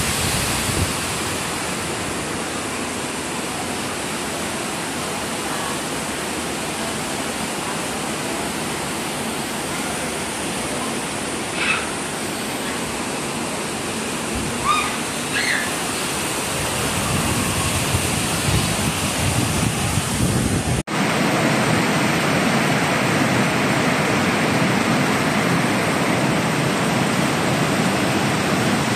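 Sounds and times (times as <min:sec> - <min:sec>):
heavy rain pouring: 0:00.0 - 0:28.9
runoff streaming off roof: 0:00.0 - 0:28.9.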